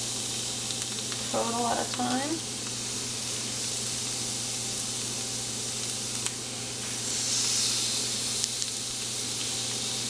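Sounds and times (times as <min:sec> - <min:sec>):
chicken sizzling on grill pan: 0:00.0 - 0:10.0.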